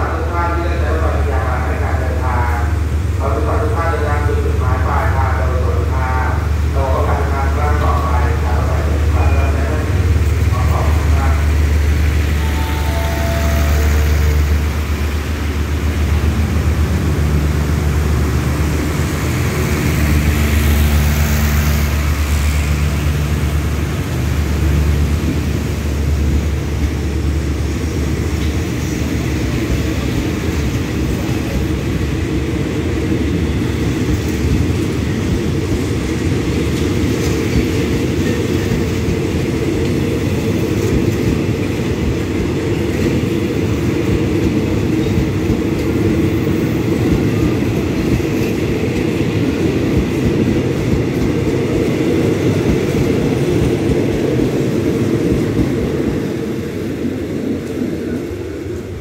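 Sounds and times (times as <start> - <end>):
wheels rumbling on rails: 7.3 - 59.0.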